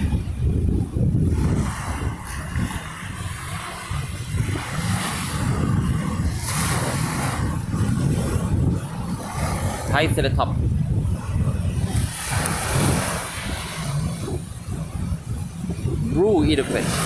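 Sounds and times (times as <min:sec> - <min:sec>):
small waves washing onto sand: 0:00.0 - 0:17.0
wind buffeting microphone: 0:00.0 - 0:17.0.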